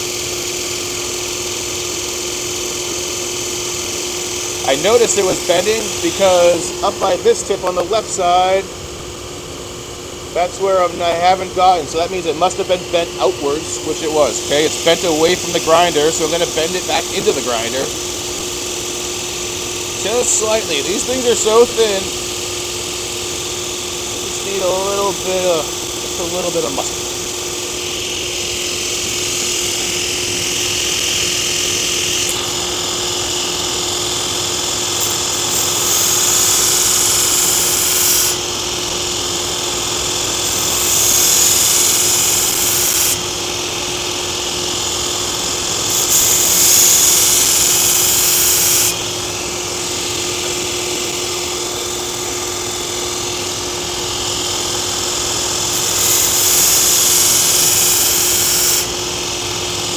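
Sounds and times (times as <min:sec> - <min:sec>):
belt grinder motor humming: 0:00.0 - 0:59.9
blade grinding hiss: 0:02.7 - 0:08.6, 0:10.4 - 0:22.8, 0:23.4 - 0:59.9.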